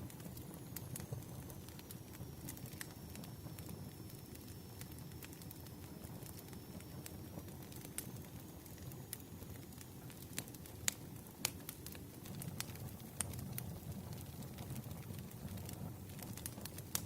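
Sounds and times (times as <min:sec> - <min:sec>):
campfire crackling and popping: 0:00.0 - 0:17.0
low rumble of burning wood: 0:00.0 - 0:17.0.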